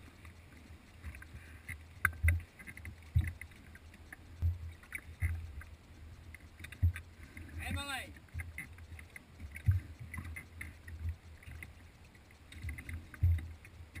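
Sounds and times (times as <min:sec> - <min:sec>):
small splashy clicks: 0:00.2 - 0:14.0.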